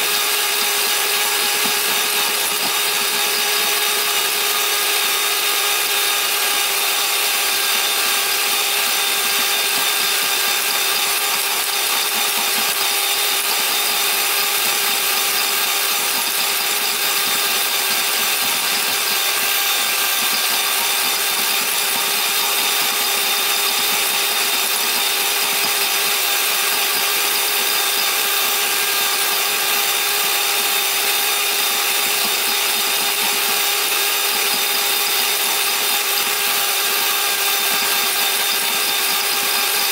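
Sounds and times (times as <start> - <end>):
electric hand mixer whining: 0.0 - 39.9.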